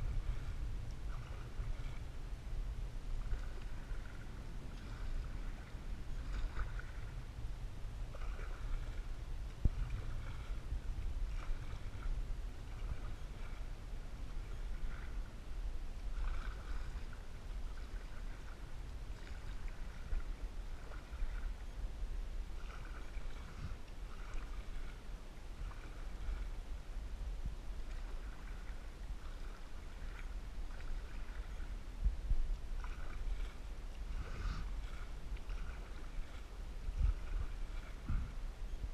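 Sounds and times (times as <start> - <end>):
paddle splashing in water: 0.0 - 21.7, 22.4 - 26.8, 27.7 - 38.9
steady low rumble: 0.0 - 38.9.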